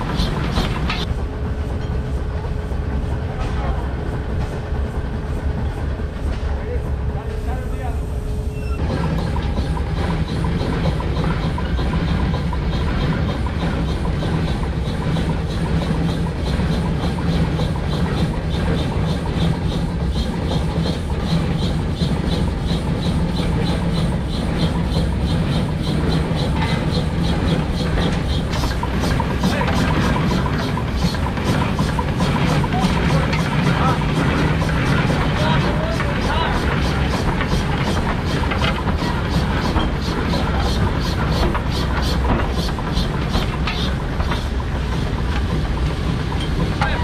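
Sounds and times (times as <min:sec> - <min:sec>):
steam engine exhaust chuffing: 0:00.0 - 0:47.0.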